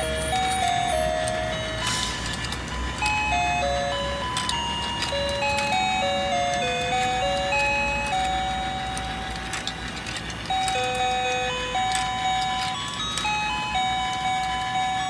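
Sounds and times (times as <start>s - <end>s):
plastic clicks: 0.0s - 14.7s
tinny electronic toy tune: 0.0s - 15.0s.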